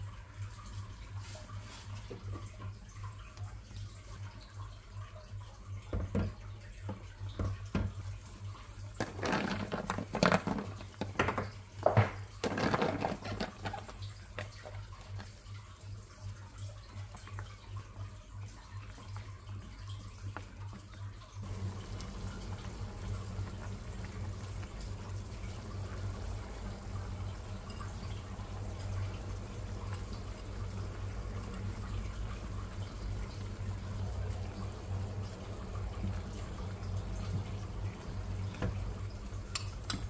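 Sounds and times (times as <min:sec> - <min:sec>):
water splashing and running: 0:00.0 - 0:40.0.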